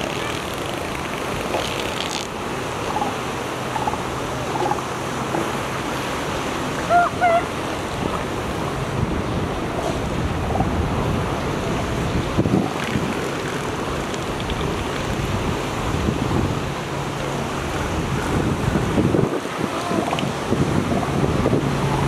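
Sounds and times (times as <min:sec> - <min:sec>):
surf and wind noise: 0:00.0 - 0:22.0.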